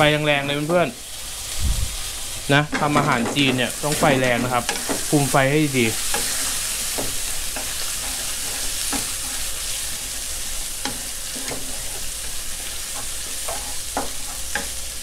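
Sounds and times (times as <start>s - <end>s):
food sizzling in a wok: 0.0s - 15.0s
spatula scraping a pan: 2.7s - 15.0s.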